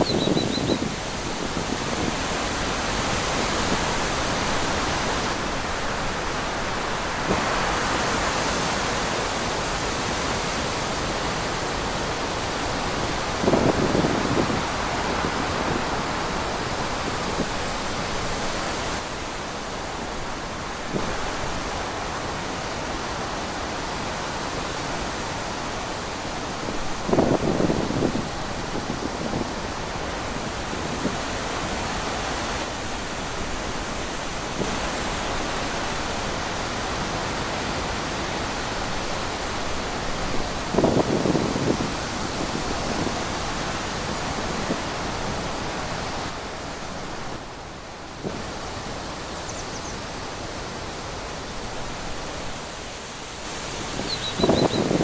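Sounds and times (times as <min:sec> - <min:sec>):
steady wind: 0:00.0 - 0:55.0.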